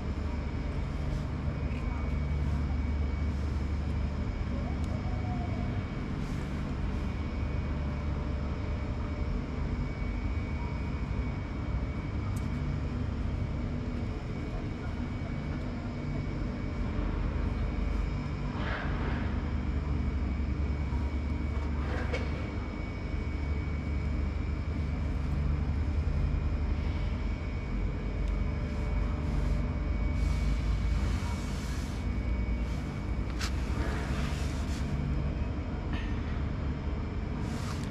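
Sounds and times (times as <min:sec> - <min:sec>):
washing machine motor drone: 0:00.0 - 0:37.9.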